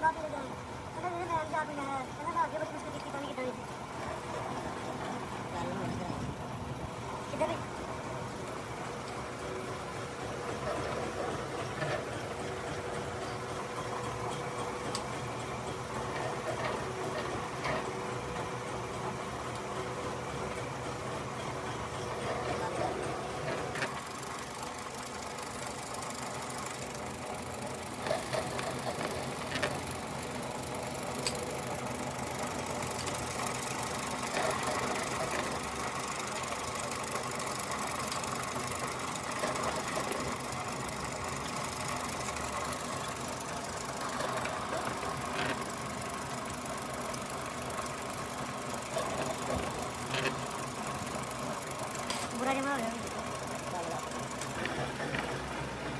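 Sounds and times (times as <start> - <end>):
milling machine cutting metal: 3.8 - 55.9.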